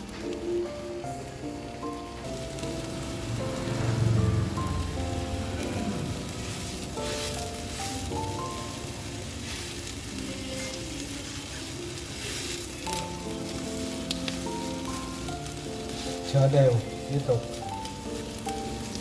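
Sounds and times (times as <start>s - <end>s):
background music: 0.0s - 19.0s
chicken sizzling in a pan: 0.0s - 19.0s.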